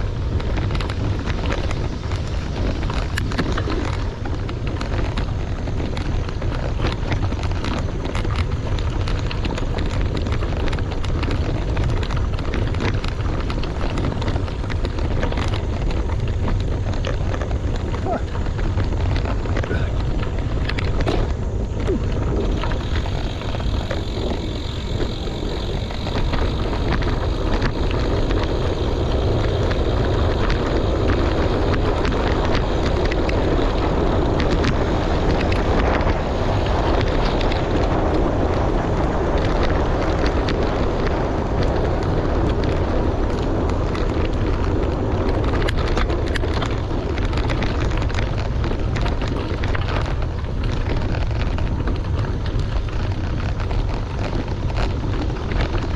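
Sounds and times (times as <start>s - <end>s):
bicycle tyres on gravel: 0.0s - 55.9s
wind buffeting microphone: 0.0s - 55.9s.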